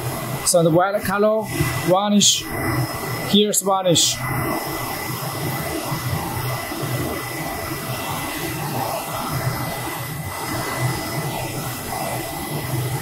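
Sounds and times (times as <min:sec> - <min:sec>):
fans and blower whirring: 0:00.0 - 0:13.0
thin high whine: 0:00.0 - 0:13.0.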